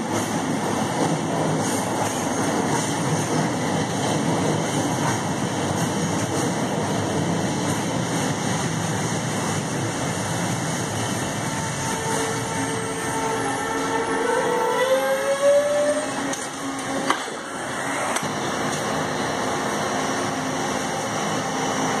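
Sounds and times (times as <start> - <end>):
train running: 0.0 - 22.0.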